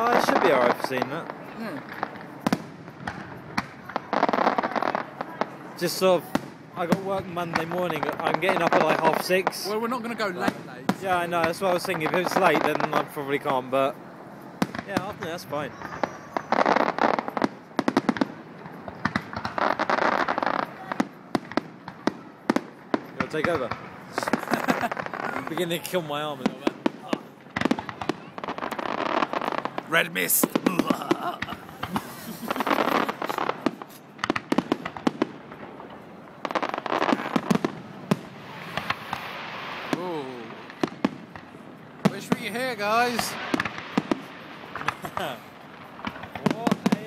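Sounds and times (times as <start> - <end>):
fireworks bangs: 0.0 - 47.0
fireworks crackle: 0.0 - 47.0.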